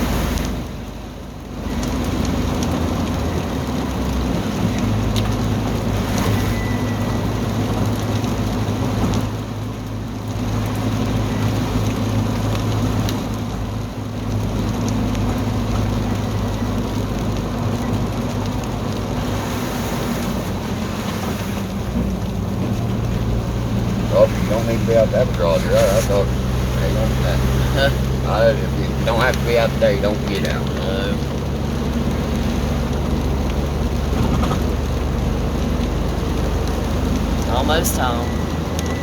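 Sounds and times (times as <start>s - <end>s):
car engine running: 0.0s - 39.0s
rain on car: 0.0s - 39.0s.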